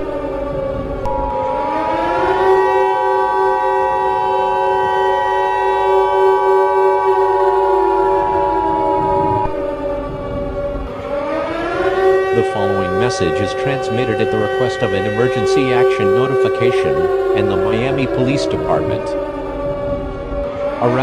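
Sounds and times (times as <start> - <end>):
civil defense siren winding: 0.0 - 21.0.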